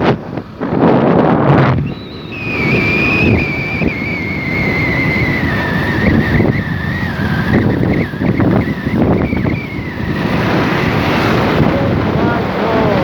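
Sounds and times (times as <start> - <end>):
high whine dropping in pitch: 0.0 - 13.0
motorcycle riding: 0.0 - 13.0
wind rushing over microphone: 0.0 - 13.0.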